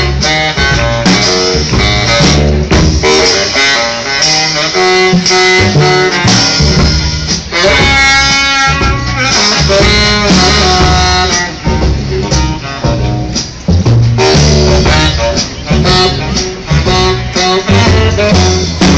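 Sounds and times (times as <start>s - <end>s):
drum kit: 0.0s - 18.9s
melodic lead line: 0.0s - 18.9s
upright bass plucked: 0.0s - 18.9s.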